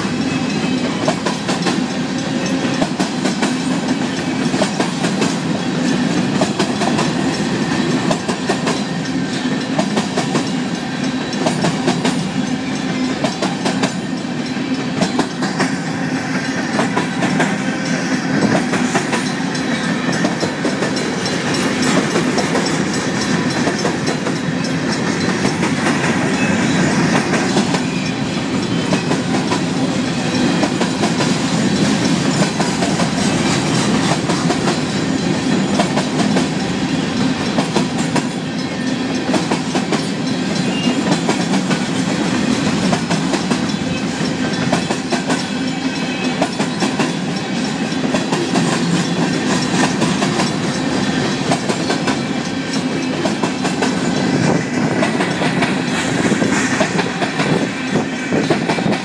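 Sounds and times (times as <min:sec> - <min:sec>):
steel wheels rumbling on rail: 0:00.0 - 0:59.0
wheels clacking over rail joints: 0:00.0 - 0:59.0.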